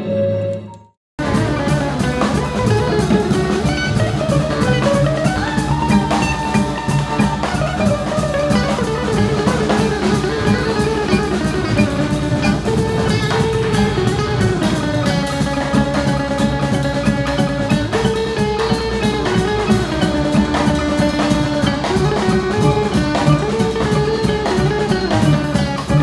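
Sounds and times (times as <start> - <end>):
bass line: 0.0 - 26.0
bowed violin: 1.2 - 26.0
drum kit playing: 1.2 - 26.0.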